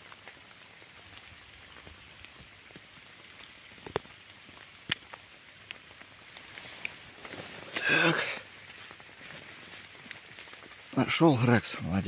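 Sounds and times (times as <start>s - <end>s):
water drops falling on leaves: 0.0s - 12.0s.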